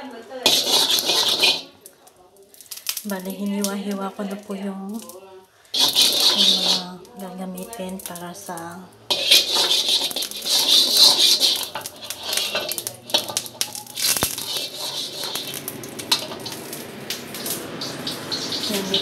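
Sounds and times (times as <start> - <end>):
fat sizzling in a wok: 0.0 - 19.0.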